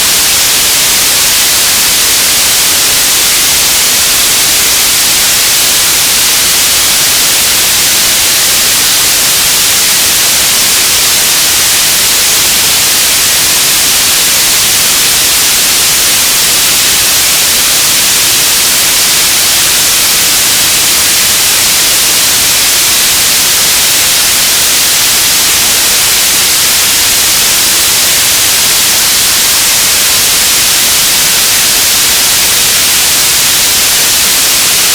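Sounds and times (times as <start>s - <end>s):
radio static hiss: 0.0s - 34.9s.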